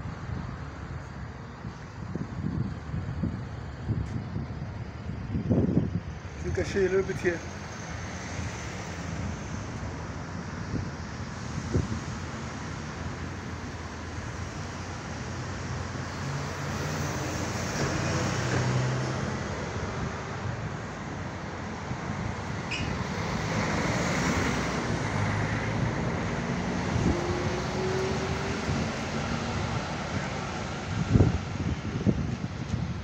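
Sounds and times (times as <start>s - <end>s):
bus passing: 0.0s - 33.0s
cars driving past: 6.2s - 33.0s.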